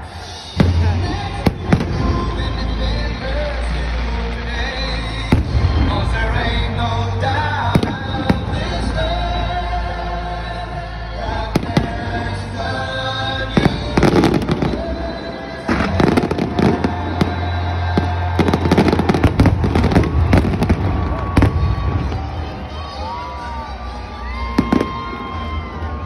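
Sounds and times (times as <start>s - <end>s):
fireworks bursting and crackling: 0.0s - 9.2s, 11.5s - 12.5s, 13.4s - 26.0s
music playing: 0.0s - 26.0s.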